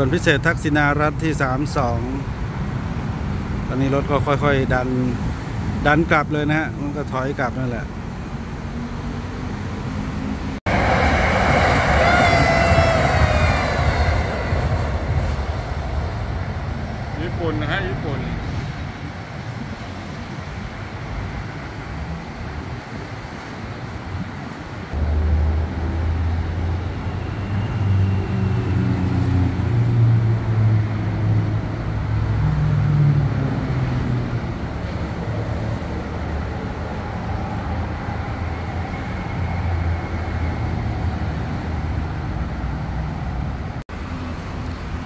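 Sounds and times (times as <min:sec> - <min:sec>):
traffic rumble: 0:00.0 - 0:45.0
diesel train engine drone: 0:07.8 - 0:45.0.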